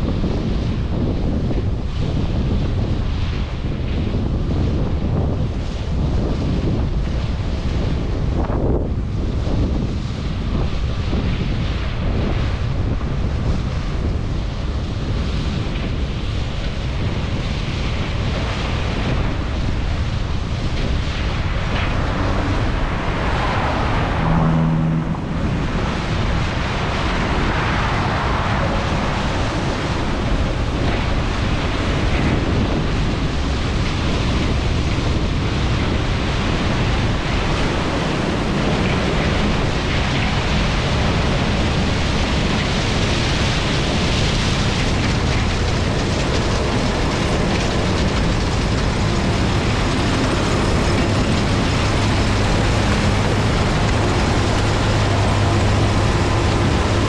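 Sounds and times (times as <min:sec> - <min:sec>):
wind on microphone: 0:00.0 - 0:57.0
combine harvester engine hum: 0:05.1 - 0:57.0.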